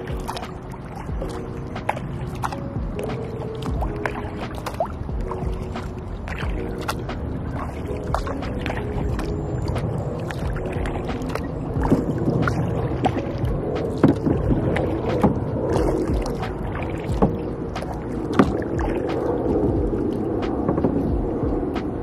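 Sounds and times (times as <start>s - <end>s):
paddle strokes splashing: 0.0s - 22.0s
water sloshing against hull: 0.0s - 22.0s.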